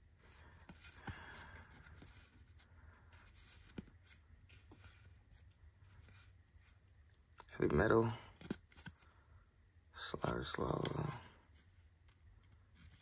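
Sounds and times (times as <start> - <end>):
trading cards rustling and flipping: 0.0 - 9.3, 10.0 - 13.0.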